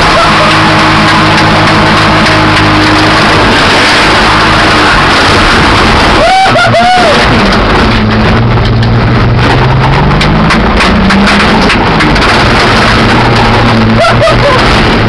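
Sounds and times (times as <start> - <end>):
car engine revving and misfiring: 0.0 - 15.0
wind and road noise: 0.0 - 15.0.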